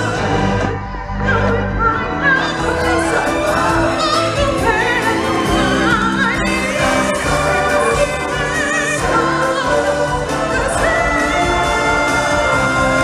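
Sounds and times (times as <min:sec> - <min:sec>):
amplified singer with vibrato: 0:00.0 - 0:13.0
choir and backing music: 0:00.0 - 0:13.0.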